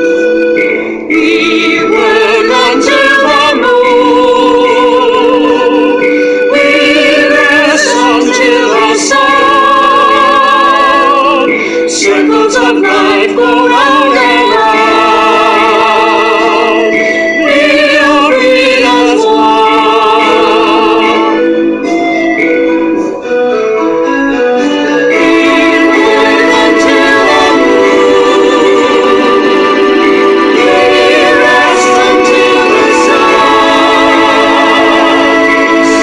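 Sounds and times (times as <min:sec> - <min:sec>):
operatic singing: 0:00.0 - 0:23.3, 0:24.4 - 0:36.0
held accompaniment: 0:00.0 - 0:36.0.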